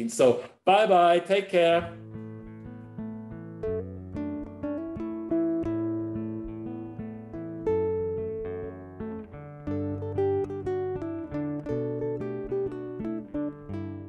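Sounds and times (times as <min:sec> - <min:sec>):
plucked acoustic guitar: 0:01.8 - 0:14.0.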